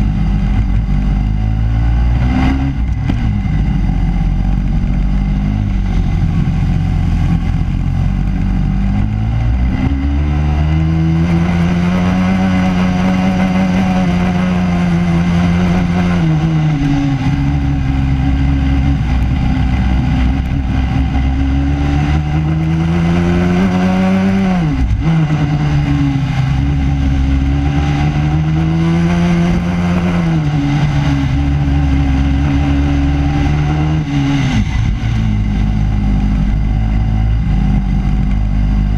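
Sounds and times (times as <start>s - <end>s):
racing kart engine: 0.0s - 38.9s.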